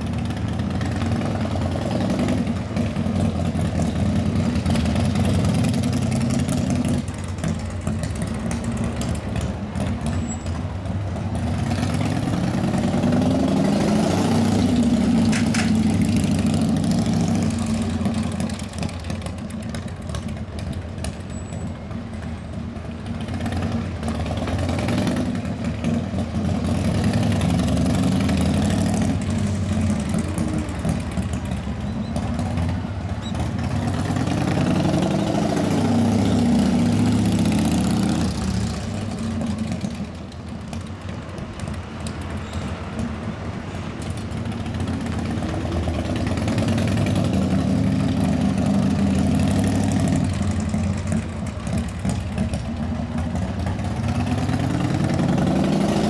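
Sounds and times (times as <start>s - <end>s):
motorcycle engine revving: 0.0s - 21.6s, 23.0s - 40.9s, 44.1s - 56.0s.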